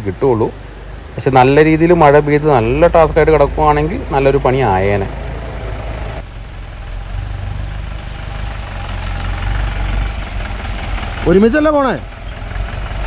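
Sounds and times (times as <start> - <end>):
jeep engine rumbling: 0.0 - 13.0.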